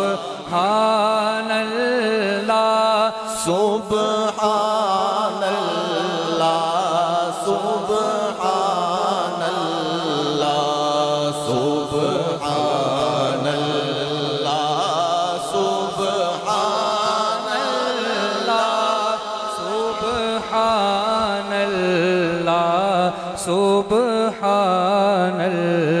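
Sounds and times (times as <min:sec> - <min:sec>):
man chanting: 0:00.0 - 0:26.0.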